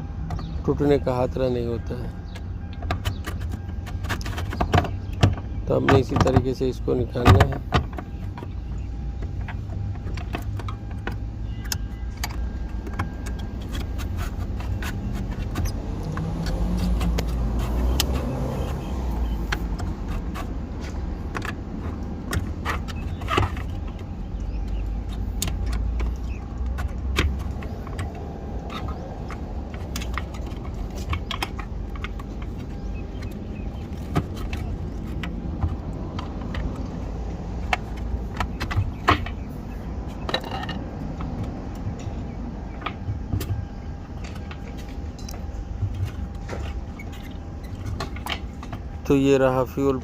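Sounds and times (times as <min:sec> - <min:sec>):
steady low rumble: 0:00.0 - 0:50.0
hand tools clicking and tapping: 0:02.2 - 0:49.9.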